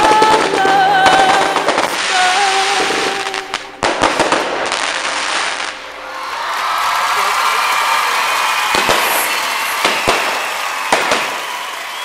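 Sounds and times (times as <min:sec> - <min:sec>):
fireworks bangs: 0:00.0 - 0:06.2, 0:07.0 - 0:12.0
fireworks crackling: 0:00.0 - 0:12.0
whistling fireworks: 0:00.0 - 0:12.0.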